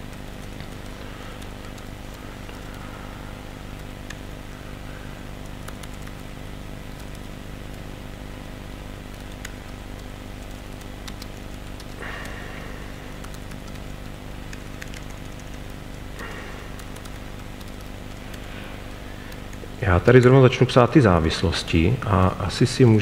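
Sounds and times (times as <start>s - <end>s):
laptop keyboard typing: 0.0s - 20.3s
steady electrical hum: 0.0s - 23.0s.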